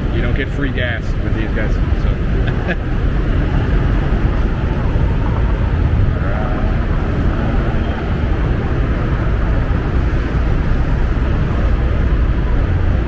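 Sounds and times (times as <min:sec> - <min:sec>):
scooter engine humming: 0:00.0 - 0:13.0
wind rush on microphone: 0:00.0 - 0:13.0.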